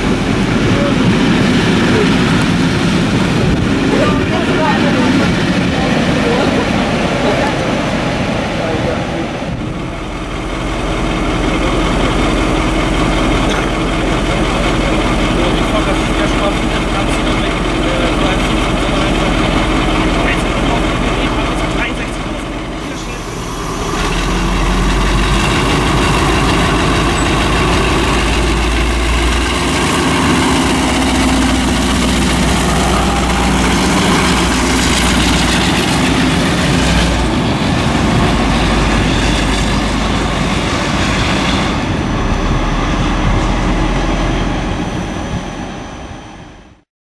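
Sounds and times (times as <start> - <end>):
wheel and rail noise: 0.0 - 46.8
diesel locomotive engine rumble: 0.0 - 46.9.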